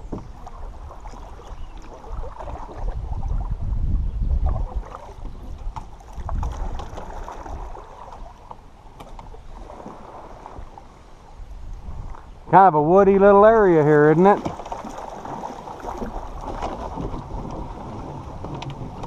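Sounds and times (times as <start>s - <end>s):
water moving around a canoe: 0.0s - 19.0s
wind rumbling on microphone: 0.0s - 19.0s.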